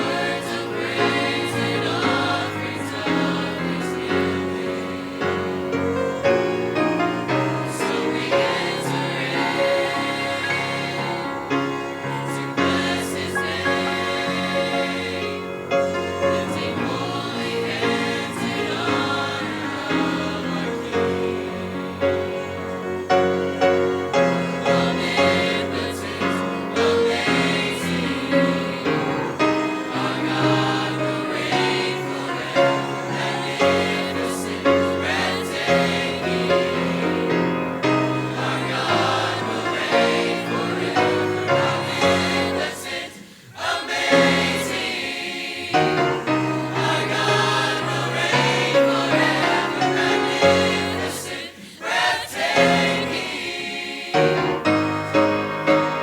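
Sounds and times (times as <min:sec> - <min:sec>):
choir singing in harmony: 0:00.0 - 0:56.0
piano accompaniment: 0:00.0 - 0:56.0.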